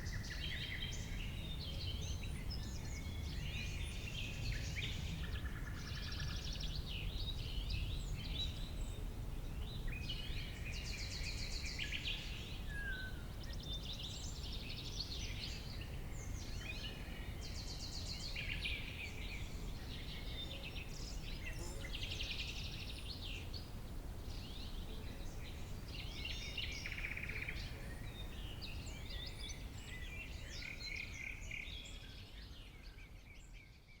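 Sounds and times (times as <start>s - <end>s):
songbirds singing and calling: 0.0s - 34.0s.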